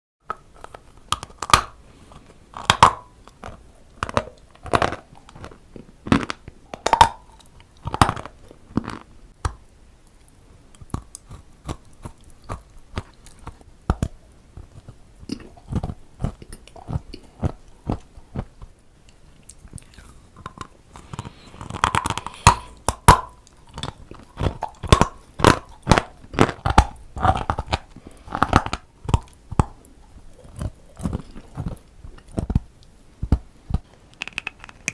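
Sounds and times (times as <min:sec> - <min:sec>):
crunchy chewing of dry clay: 0:00.5 - 0:09.1, 0:10.7 - 0:29.4, 0:33.9 - 0:34.9.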